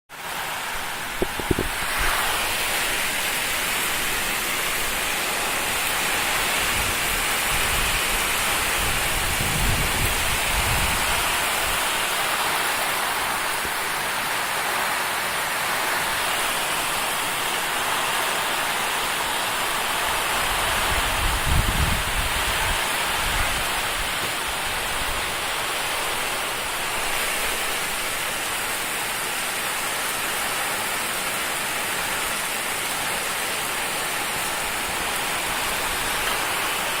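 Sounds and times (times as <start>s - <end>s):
heavy rain pouring: 0.1s - 37.0s.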